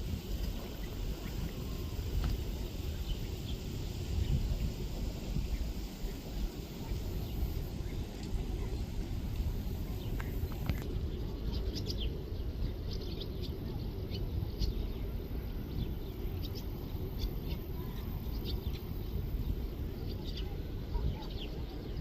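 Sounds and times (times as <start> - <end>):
steady low rumble: 0.0 - 22.0
small birds chirping: 0.1 - 22.0.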